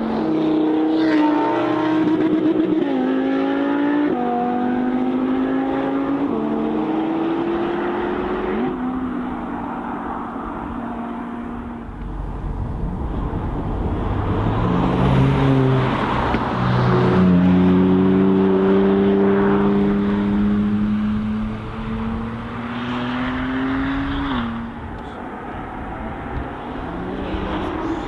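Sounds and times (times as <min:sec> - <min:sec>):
sports car engine accelerating: 0:00.0 - 0:28.0.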